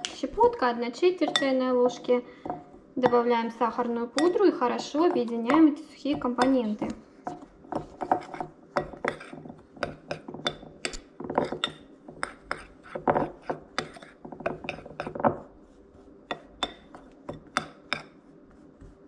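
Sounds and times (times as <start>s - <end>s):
spoon stirring in glass bowl: 0.0s - 19.0s.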